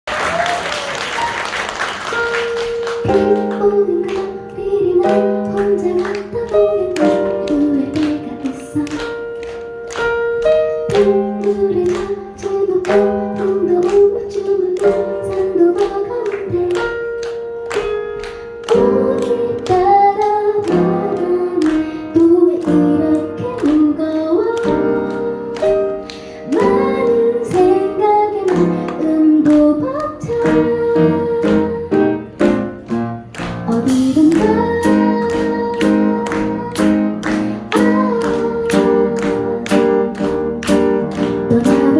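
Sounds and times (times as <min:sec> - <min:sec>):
instrumental accompaniment: 0:01.9 - 0:41.9
woman singing: 0:03.0 - 0:09.6, 0:10.9 - 0:17.3, 0:18.6 - 0:32.5, 0:33.6 - 0:41.9.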